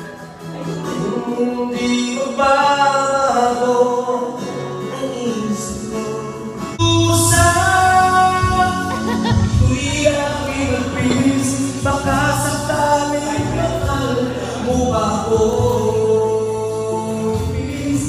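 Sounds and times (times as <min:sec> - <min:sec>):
man singing into microphone: 0:00.0 - 0:18.0
recorded backing track: 0:00.0 - 0:18.0.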